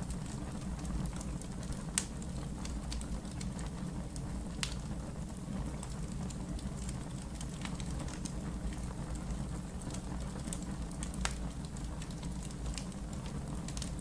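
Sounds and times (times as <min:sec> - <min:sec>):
fire popping: 0:00.0 - 0:14.0
log fire crackling: 0:00.0 - 0:14.0.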